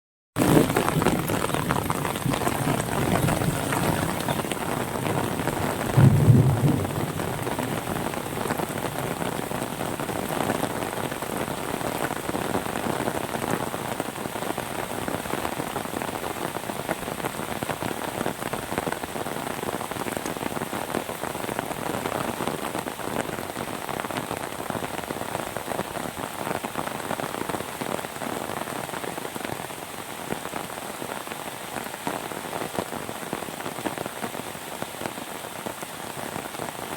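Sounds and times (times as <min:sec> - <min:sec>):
steady rain falling: 0:00.4 - 0:36.9.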